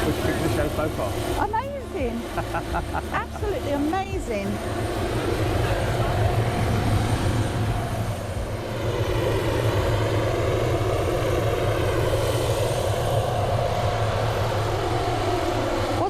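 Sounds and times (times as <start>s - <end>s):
helicopter drone: 0.0s - 16.0s.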